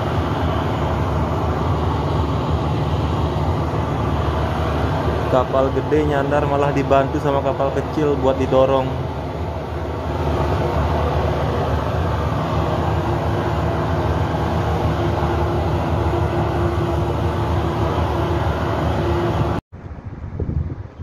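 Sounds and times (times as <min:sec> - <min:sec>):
propellers churning water: 0:00.0 - 0:20.1
tugboat engine rumble: 0:00.0 - 0:21.0.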